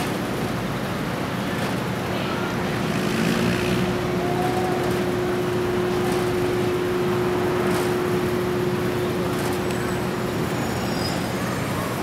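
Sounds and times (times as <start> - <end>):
city traffic: 0.0 - 12.0
steady hum: 0.0 - 12.0.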